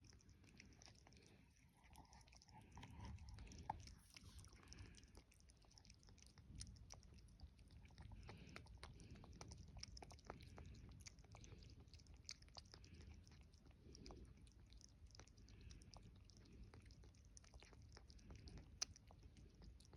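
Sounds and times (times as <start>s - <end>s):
cat chewing food: 0.0s - 19.9s.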